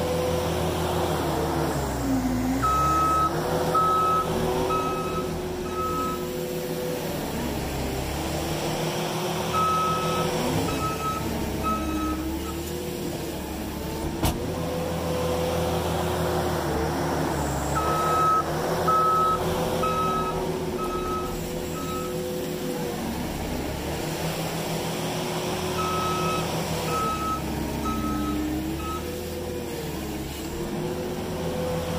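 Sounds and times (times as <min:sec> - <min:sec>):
skid steer engine running: 0:00.0 - 0:31.9.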